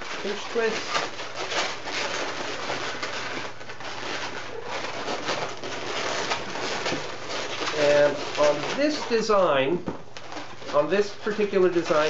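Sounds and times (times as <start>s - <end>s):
balloons rubbing rustle: 0.0s - 12.0s
low steady hum: 0.0s - 12.0s.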